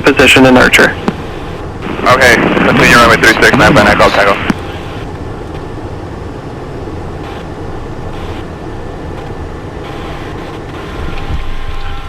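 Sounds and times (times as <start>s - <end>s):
faint steady tones: 0.0s - 12.0s
jet cockpit engine rumble: 0.0s - 12.0s.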